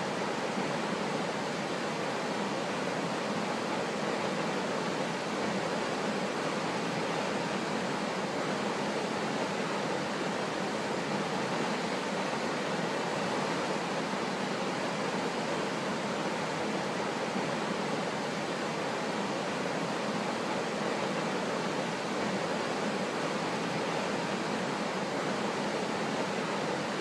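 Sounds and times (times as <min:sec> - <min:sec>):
river rushing through rapids: 0:00.0 - 0:27.0.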